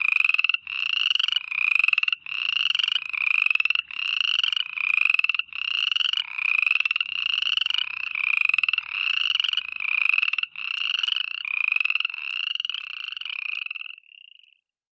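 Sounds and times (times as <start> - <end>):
frogs trilling: 0.0 - 14.6.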